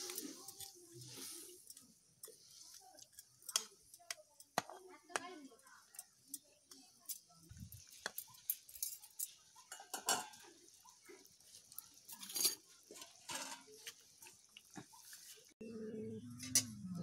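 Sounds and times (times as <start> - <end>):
curry bubbling in a pan: 0.0 - 15.6.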